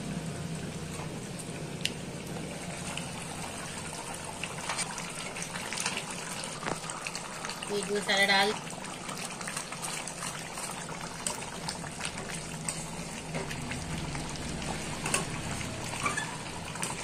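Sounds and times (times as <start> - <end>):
gravy bubbling in metal pan: 0.0 - 17.0.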